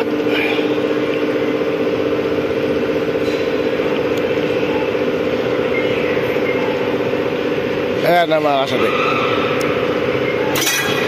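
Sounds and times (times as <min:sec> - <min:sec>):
ride machinery humming: 0:00.0 - 0:11.0.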